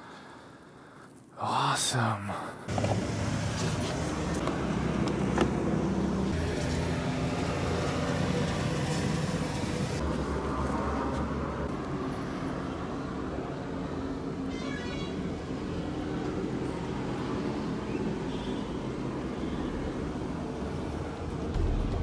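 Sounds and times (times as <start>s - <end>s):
road traffic noise: 1.6s - 22.0s
vehicle engine humming: 2.7s - 22.0s.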